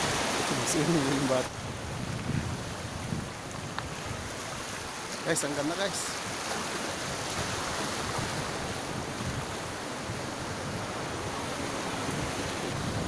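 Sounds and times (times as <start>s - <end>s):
wind buffeting microphone: 0.0s - 5.1s, 5.9s - 13.0s
sea waves washing over rocks: 0.0s - 13.0s.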